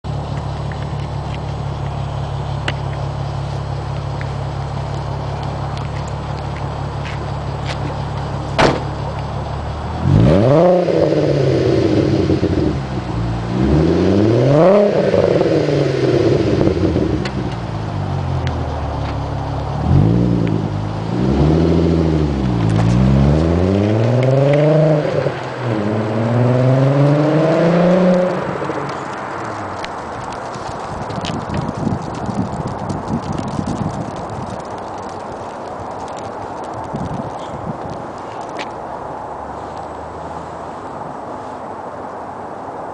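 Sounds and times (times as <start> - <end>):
car engine idling and revving: 0.0 - 42.8.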